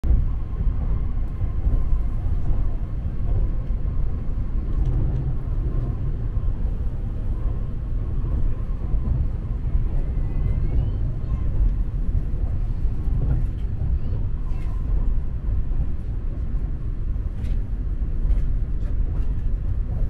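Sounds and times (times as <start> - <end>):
train cabin low rumble: 0.0 - 20.0.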